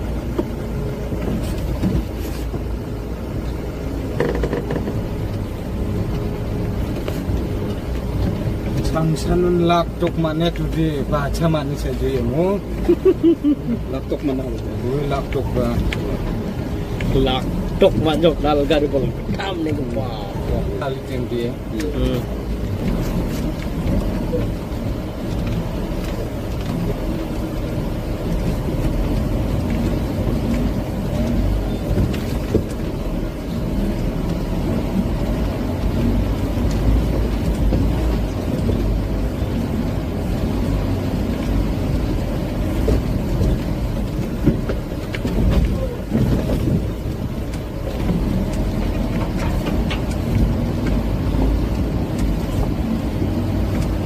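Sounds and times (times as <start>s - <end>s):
truck engine low rumble: 0.0s - 54.0s.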